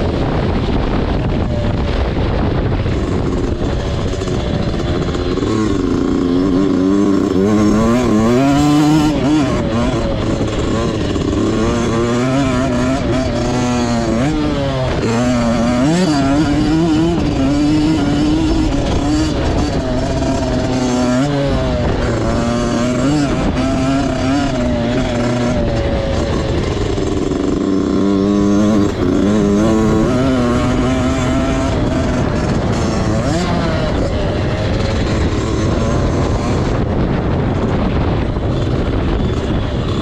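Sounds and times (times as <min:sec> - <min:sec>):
motocross bike engine revving: 0:00.0 - 0:40.0.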